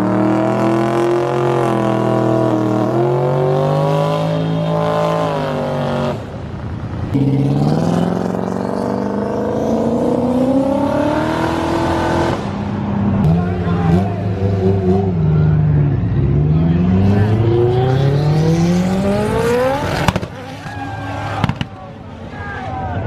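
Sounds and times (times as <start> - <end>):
car engine accelerating hard: 0.0 - 21.7.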